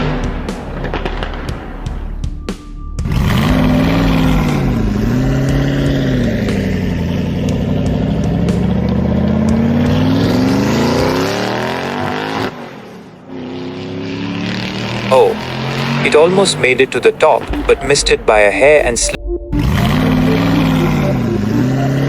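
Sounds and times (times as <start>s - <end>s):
truck engine revving hard: 3.0s - 22.0s.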